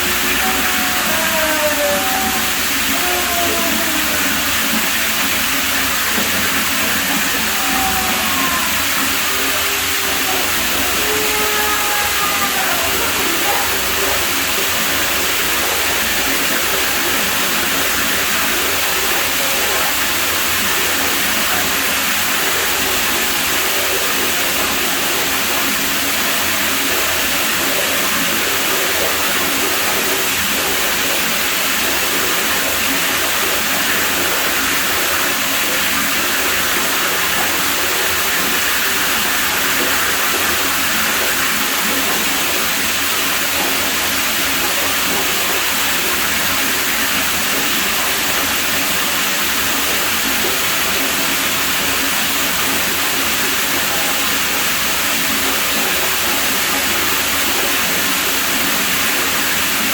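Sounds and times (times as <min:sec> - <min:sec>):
water flowing at a pool: 0:00.0 - 0:59.9.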